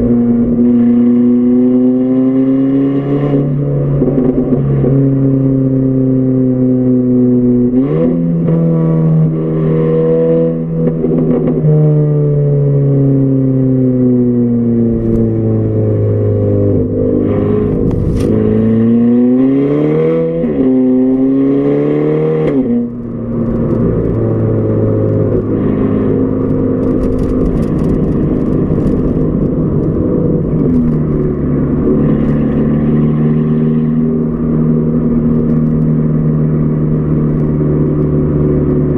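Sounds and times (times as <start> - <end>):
car engine accelerating: 0.0 - 38.9
exhaust drone while cruising: 0.0 - 38.9.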